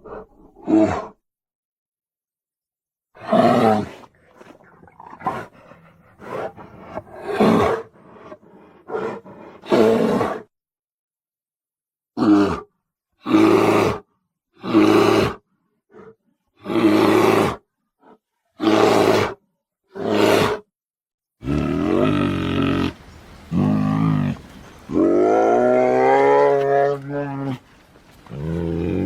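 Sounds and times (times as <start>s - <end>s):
bear roars: 0.0s - 1.2s, 3.2s - 10.5s, 12.2s - 20.6s, 21.4s - 29.0s.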